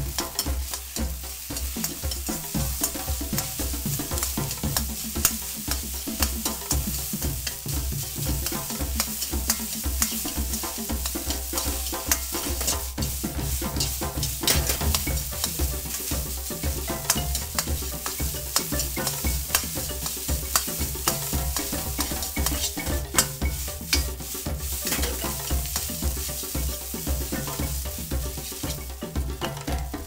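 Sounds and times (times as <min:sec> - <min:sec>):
metal ladle scraping pan: 0:00.0 - 0:30.0
rice sizzling: 0:00.0 - 0:30.0.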